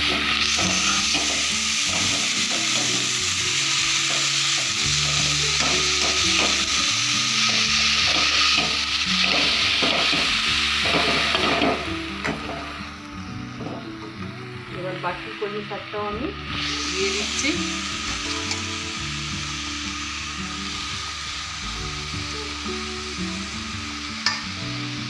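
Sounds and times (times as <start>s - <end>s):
greens sizzling in hot oil: 0.0s - 25.0s.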